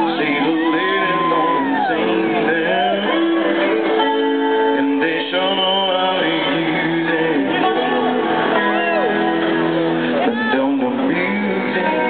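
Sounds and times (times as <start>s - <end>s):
guitar-led rock music: 0.0s - 12.0s.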